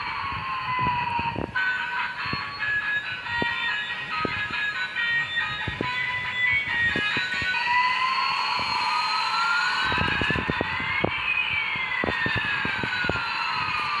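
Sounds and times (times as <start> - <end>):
toy jet sound effect: 0.0 - 14.0.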